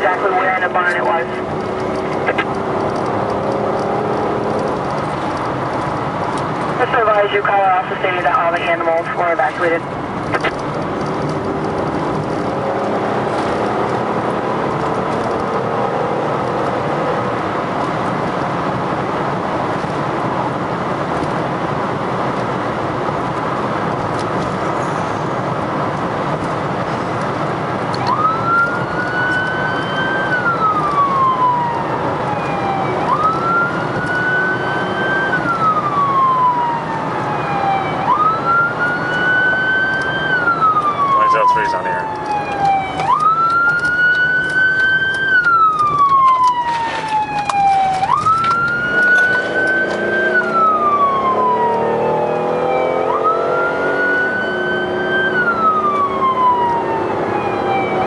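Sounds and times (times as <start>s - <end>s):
emergency siren wailing: 0.0s - 20.2s, 23.1s - 58.0s
road and engine noise: 0.0s - 58.0s.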